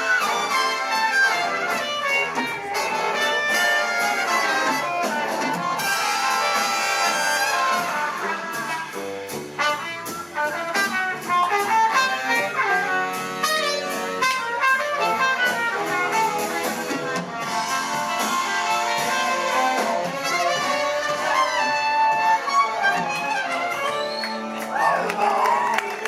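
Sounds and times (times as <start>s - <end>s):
horns playing melody: 0.0s - 24.8s
jazz band playing slow ballad: 0.0s - 26.0s.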